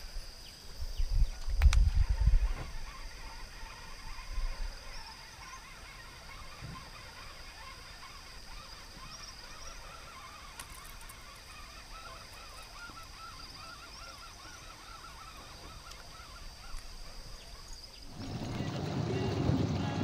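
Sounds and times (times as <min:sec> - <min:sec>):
flock of birds calling: 0:01.3 - 0:20.0.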